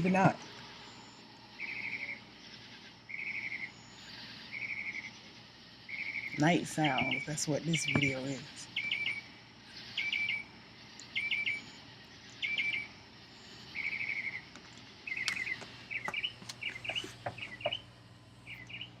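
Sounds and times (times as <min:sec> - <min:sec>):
bird singing: 0:00.0 - 0:19.0.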